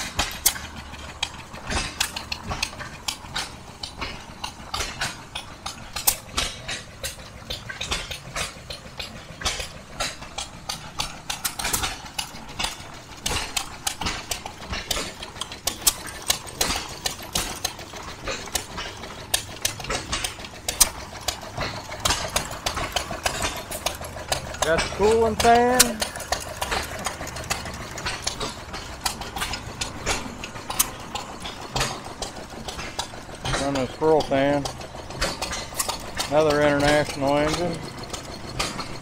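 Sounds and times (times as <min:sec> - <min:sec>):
engines clattering with pops and clicks: 0:00.0 - 0:39.0
low steady engine rumble: 0:00.0 - 0:39.0.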